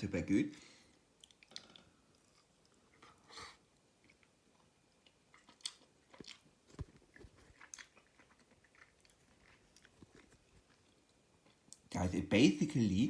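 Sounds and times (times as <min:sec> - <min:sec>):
person chewing: 0:00.9 - 0:11.9.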